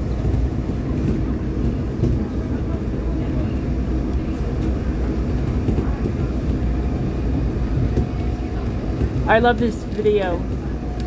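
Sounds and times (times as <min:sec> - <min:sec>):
rumble of wheels on rail: 0:00.0 - 0:11.0.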